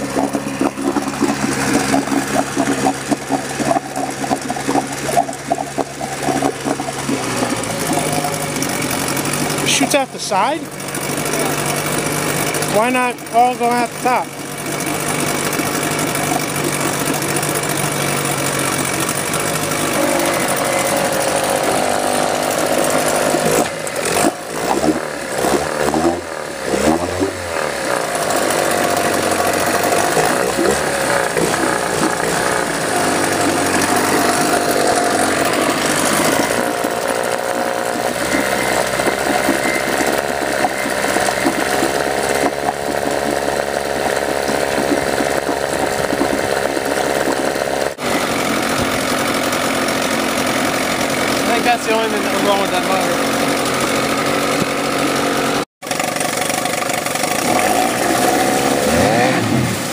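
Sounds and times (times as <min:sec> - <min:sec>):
outboard engine running: 0:00.0 - 0:59.9
propeller churning water: 0:00.0 - 0:59.9.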